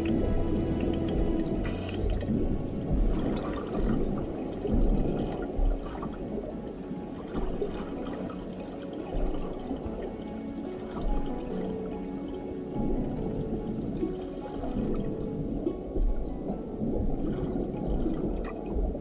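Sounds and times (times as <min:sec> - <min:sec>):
water sloshing and pouring: 0:00.0 - 0:19.0.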